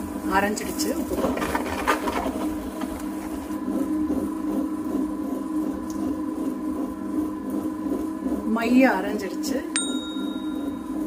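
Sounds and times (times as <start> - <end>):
wet grinder running: 0.0 - 11.0.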